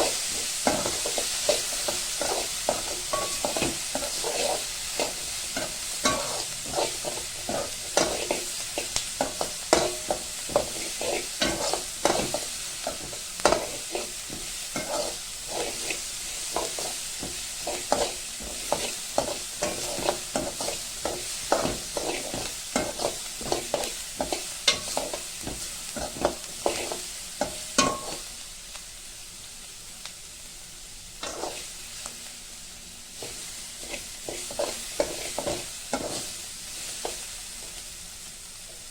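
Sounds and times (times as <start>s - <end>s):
frying sizzle: 0.0s - 38.9s.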